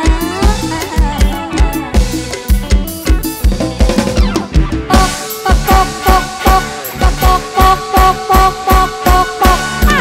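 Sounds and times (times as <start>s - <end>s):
instrumental band music: 0.0s - 10.0s.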